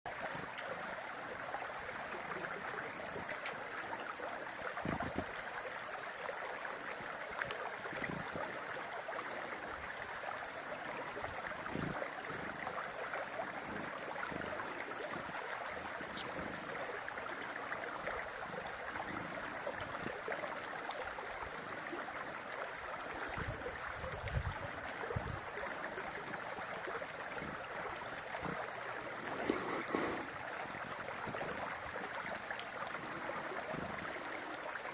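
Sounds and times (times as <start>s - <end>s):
running water: 0.1s - 34.9s.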